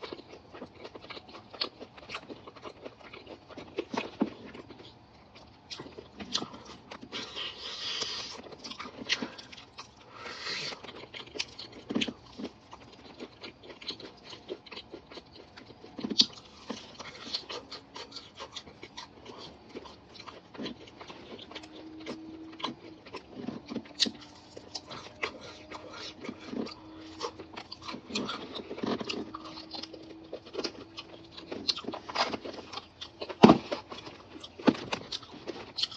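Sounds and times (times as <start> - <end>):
chewing and mouth smacking: 0.0 - 35.9.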